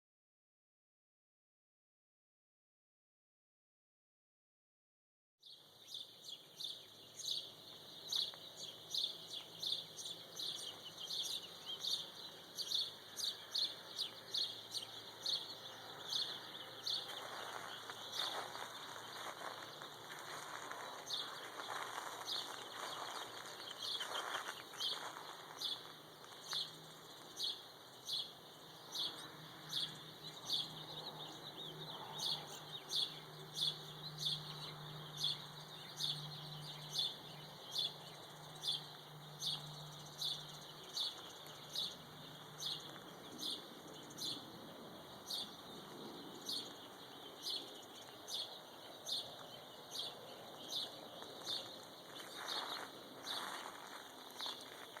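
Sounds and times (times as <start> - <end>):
birds chirping: 5.5 - 55.0.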